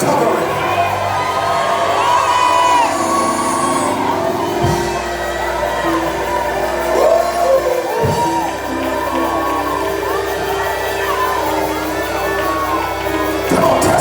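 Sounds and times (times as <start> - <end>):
congregation shouting and singing: 0.0 - 14.0
loud church music: 0.0 - 14.0.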